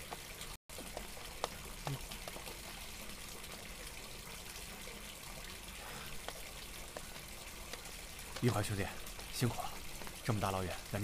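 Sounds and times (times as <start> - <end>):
faint drips: 0.0 - 11.0
steady rain hiss: 0.0 - 11.0.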